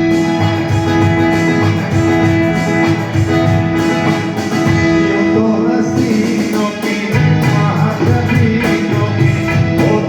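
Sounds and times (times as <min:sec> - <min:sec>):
plucked guitar-like part: 0:00.0 - 0:10.0.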